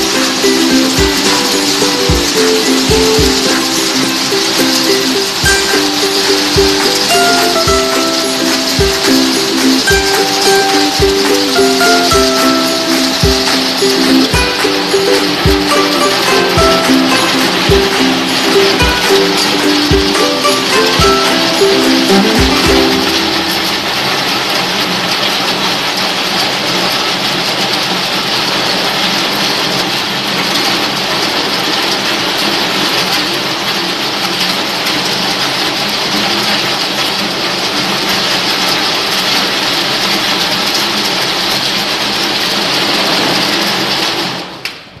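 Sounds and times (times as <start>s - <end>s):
granular material pouring hiss: 0.0s - 44.5s
conveyor motor hum: 0.0s - 45.0s.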